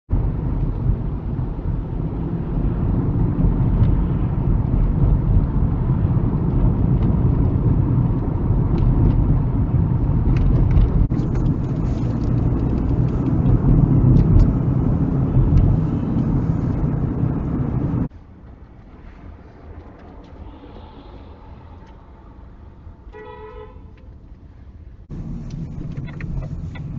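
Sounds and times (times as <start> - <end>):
car engine and road noise: 0.1 - 26.9.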